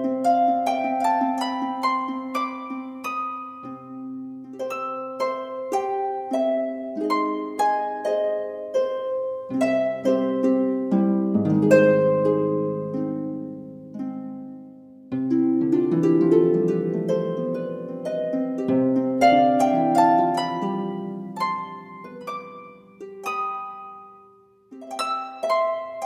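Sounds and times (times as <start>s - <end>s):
harp music: 0.0s - 26.0s.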